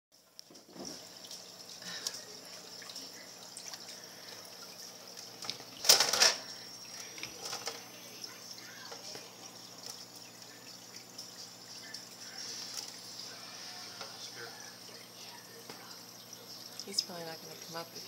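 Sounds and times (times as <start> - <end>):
aquarium water bubbling: 0.2 - 18.0
faint tank equipment hum: 0.2 - 18.0.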